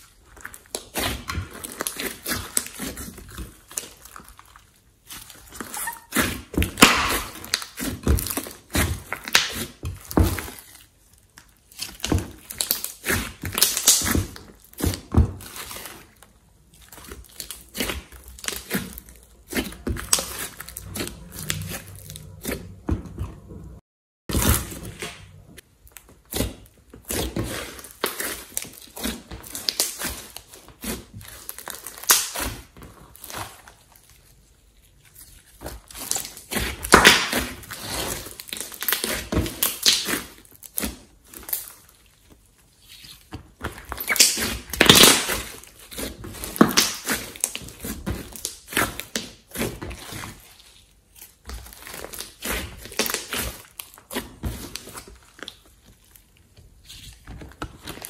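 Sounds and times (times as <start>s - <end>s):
sticky slime crackling: 0.0s - 23.7s, 24.3s - 58.0s.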